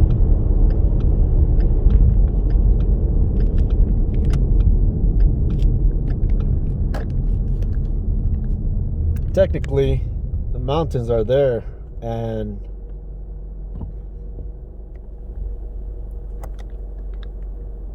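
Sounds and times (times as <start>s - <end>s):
car road rumble: 0.0s - 17.9s.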